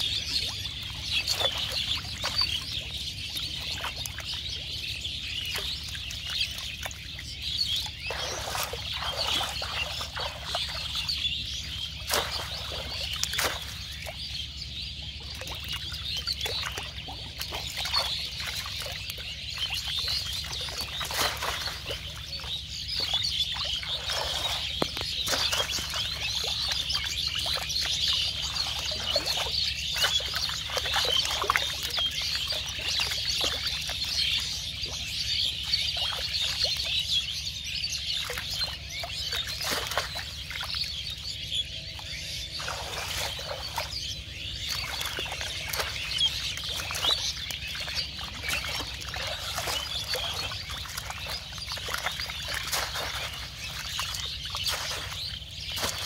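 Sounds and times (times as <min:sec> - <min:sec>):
small birds chirping: 0:00.0 - 0:56.0
water splashing and netting rustling: 0:00.0 - 0:56.0.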